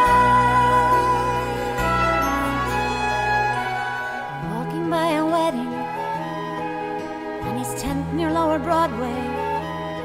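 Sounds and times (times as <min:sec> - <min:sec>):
instrumental sustained chords: 0:00.0 - 0:10.0.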